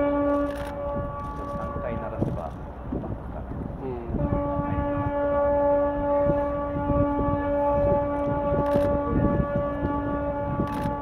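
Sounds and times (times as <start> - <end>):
ship's horn blast: 0.0 - 2.3, 4.1 - 11.0.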